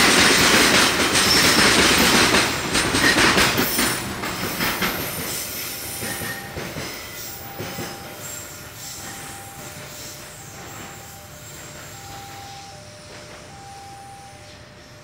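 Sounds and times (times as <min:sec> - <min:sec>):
train wheels clattering over track: 0:00.0 - 0:13.6.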